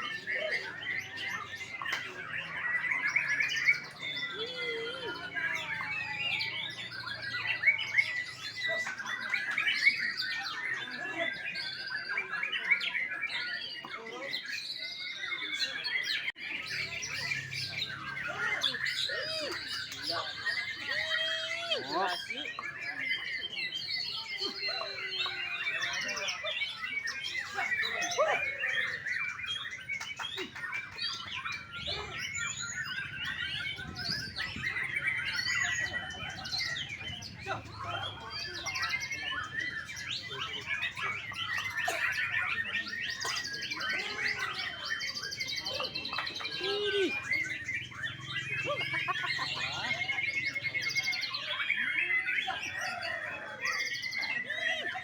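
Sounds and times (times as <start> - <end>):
birds chirping and squawking: 0.0 - 55.0.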